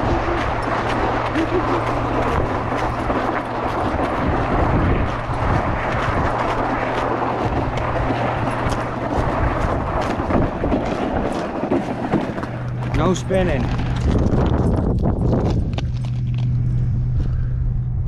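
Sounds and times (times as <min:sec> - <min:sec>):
footsteps crunching on snowy ice: 0:00.0 - 0:17.5
low hum: 0:00.0 - 0:18.0
wind rumble on microphone: 0:00.0 - 0:18.0.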